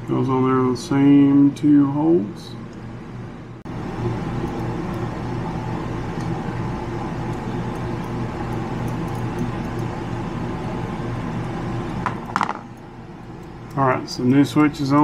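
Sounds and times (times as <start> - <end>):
mechanical hum with low buzz: 0.0 - 15.0.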